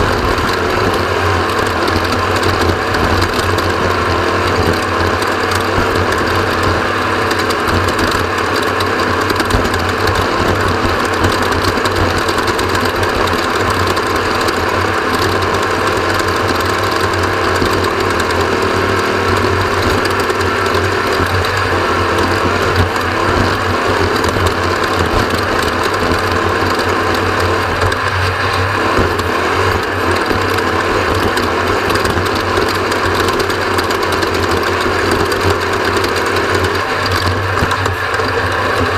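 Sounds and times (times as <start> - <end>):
bike mechanical clatter: 0.0 - 38.9.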